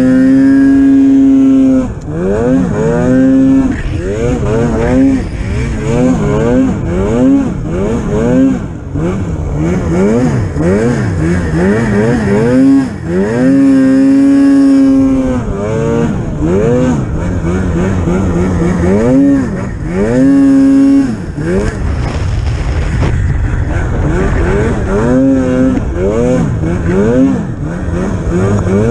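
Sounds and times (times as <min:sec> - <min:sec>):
snowmobile engine revving: 0:00.0 - 0:28.9.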